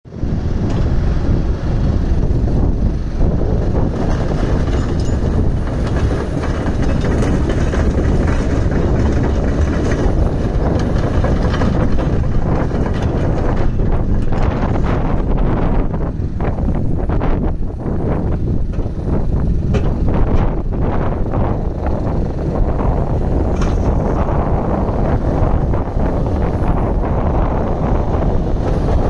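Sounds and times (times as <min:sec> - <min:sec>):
excavator diesel engine rumbling: 0:00.1 - 0:29.0.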